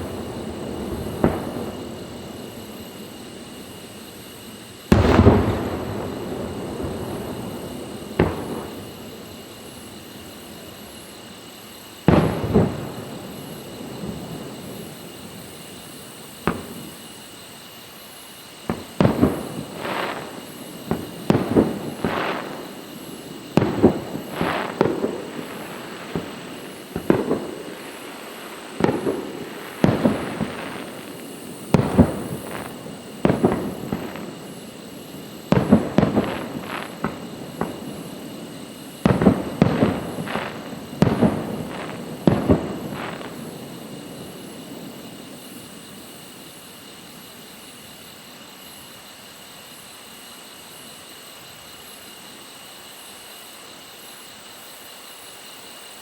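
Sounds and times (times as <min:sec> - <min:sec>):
fireworks bursting with echo: 0:00.0 - 0:48.9.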